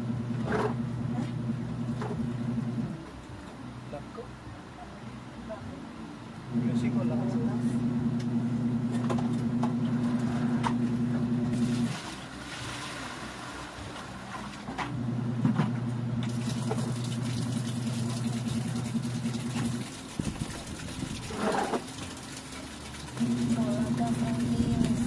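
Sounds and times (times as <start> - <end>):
washing machine motor humming: 0.0 - 3.5, 6.4 - 25.0.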